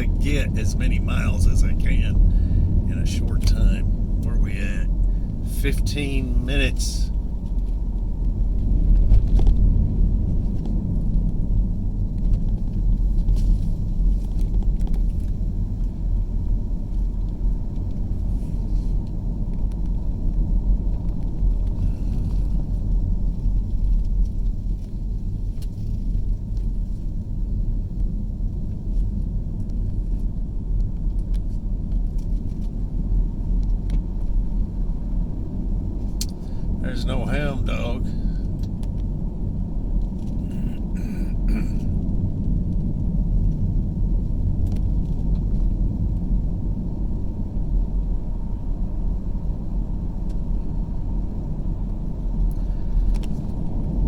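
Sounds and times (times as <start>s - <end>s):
car interior road noise: 0.0s - 54.0s.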